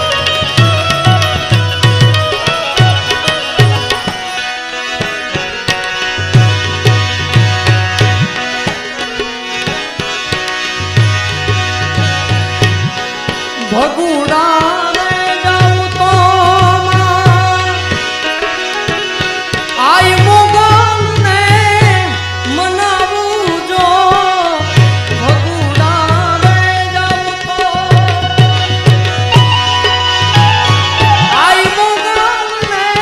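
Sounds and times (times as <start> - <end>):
tabla strokes: 0.0 - 33.0.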